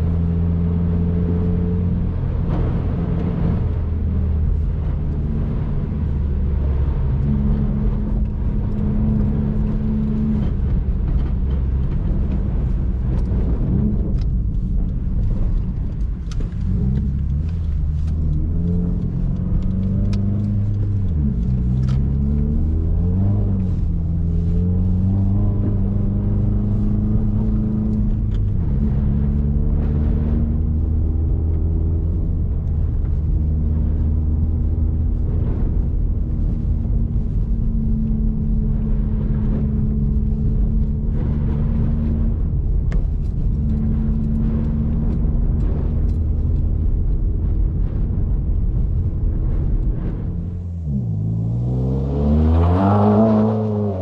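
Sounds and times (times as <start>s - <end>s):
low road rumble: 0.0s - 54.0s
turbocharged car engine: 0.0s - 54.0s.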